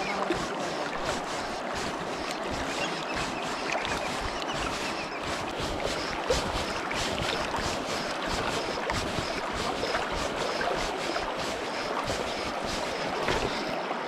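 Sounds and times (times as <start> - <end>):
wind buffeting microphone: 0.0 - 13.7
river water rushing: 0.0 - 14.0.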